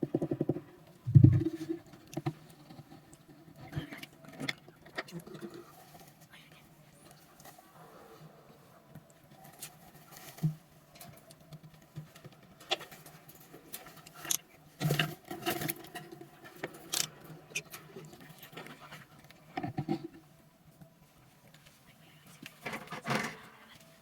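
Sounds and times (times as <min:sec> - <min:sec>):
birds tapping and scratching in cage: 0:00.0 - 0:07.6, 0:08.9 - 0:20.9, 0:21.5 - 0:23.9.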